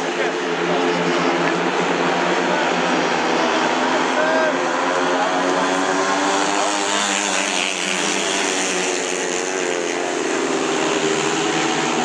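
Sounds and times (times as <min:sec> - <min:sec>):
racing motorcycle engines droning: 0:00.0 - 0:12.0.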